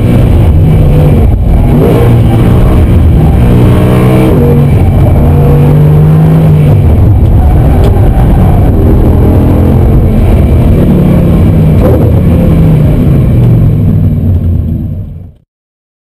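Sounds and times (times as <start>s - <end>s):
engine revving from inside the cabin: 0.0s - 14.0s.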